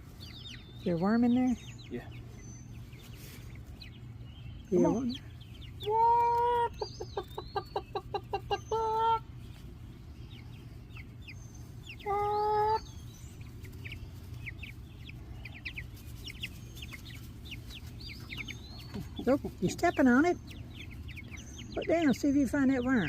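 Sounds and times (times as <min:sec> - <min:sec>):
chicks peeping: 0:00.0 - 0:23.0
chicken clucking: 0:01.8 - 0:23.0.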